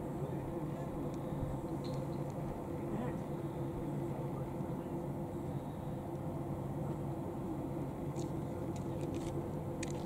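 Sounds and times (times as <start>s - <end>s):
light aircraft engine drone: 0.0s - 10.0s.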